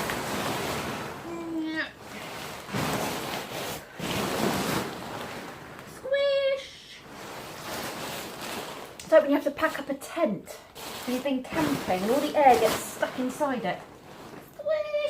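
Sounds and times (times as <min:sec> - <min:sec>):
nylon fabric rustling: 0:00.0 - 0:15.0.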